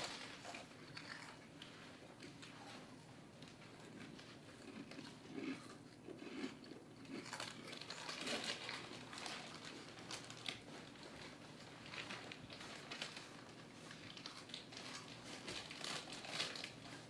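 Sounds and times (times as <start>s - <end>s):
rustling and crinkling: 0.0s - 5.3s, 7.2s - 17.0s
small clicks and crunches: 0.0s - 17.0s.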